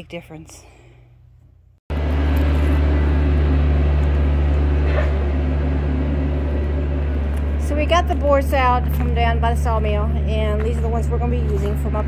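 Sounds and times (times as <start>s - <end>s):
engine idling: 1.9s - 12.0s.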